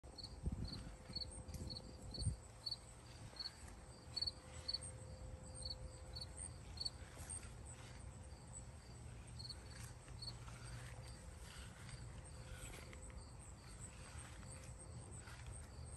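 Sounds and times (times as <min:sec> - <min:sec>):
insect chirping: 0:00.2 - 0:15.9.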